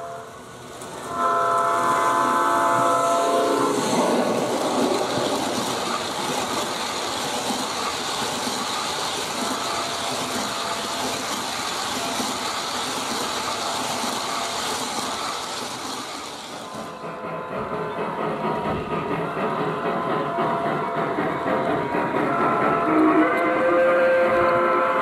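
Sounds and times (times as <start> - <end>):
model train wheels rolling on rails: 0.0 - 24.8.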